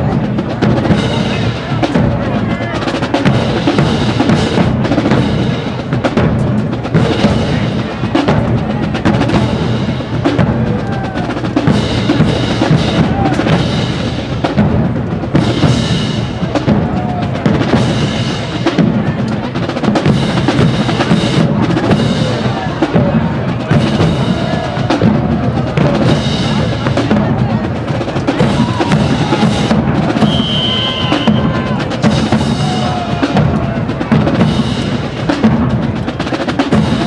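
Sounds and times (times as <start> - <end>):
marching band playing: 0.0 - 37.0
snare and bass drums: 0.0 - 37.0.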